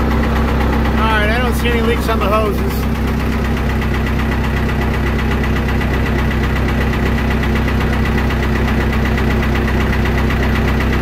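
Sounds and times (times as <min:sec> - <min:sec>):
tractor engine running steadily: 0:00.0 - 0:11.0.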